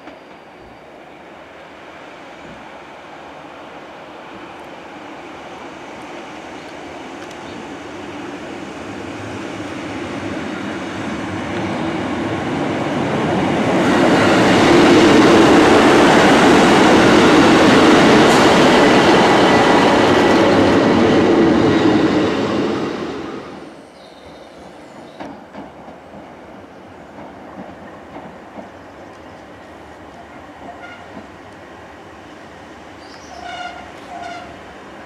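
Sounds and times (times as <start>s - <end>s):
diesel train passing: 0.0s - 35.0s.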